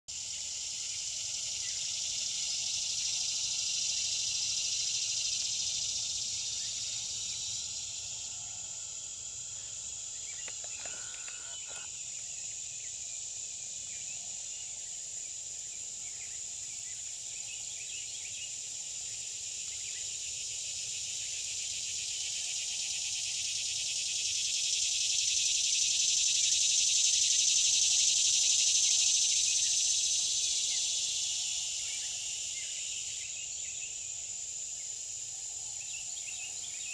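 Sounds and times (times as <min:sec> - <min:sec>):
high-pitched insect chorus: 0:00.1 - 0:36.9.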